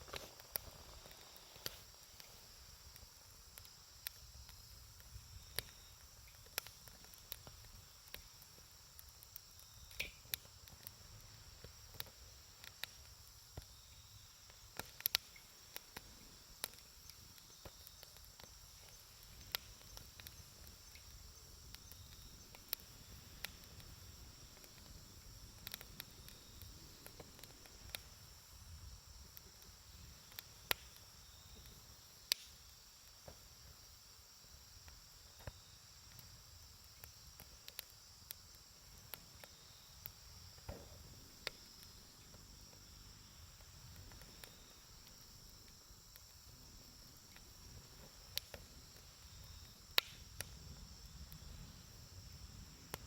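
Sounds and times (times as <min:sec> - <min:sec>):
campfire crackling: 0:00.0 - 0:53.0
high-pitched insect chorus: 0:00.0 - 0:53.0.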